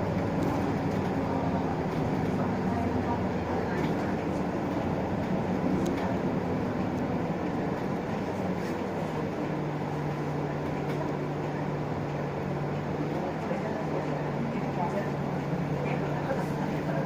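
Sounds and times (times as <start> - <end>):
bus engine humming: 0.0 - 17.0
road noise: 0.0 - 17.0.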